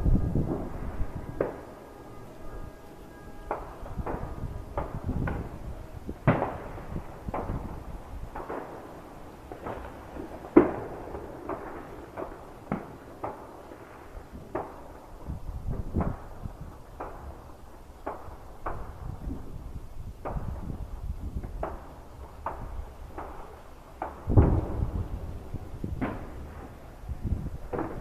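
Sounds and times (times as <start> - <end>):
fireworks bangs and pops: 3.4 - 28.0.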